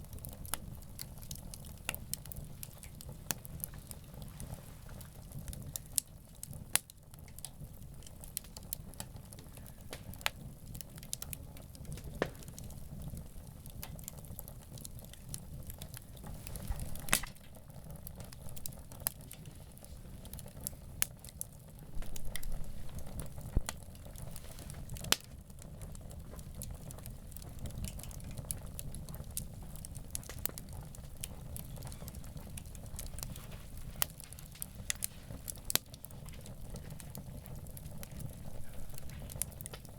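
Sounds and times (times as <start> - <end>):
campfire crackling and popping: 0.0 - 39.9
low steady fire rumble: 0.0 - 39.9.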